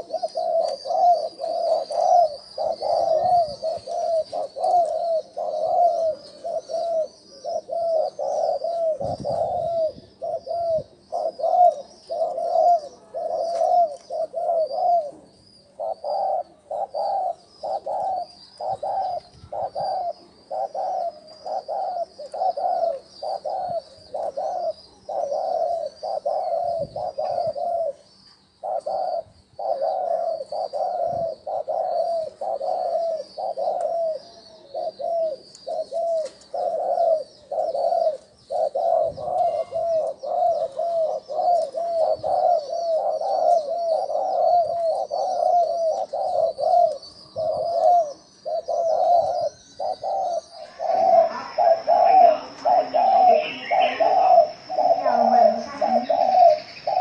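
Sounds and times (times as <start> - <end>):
dove cooing: 0.0 - 57.0
small birds twittering: 0.0 - 57.0.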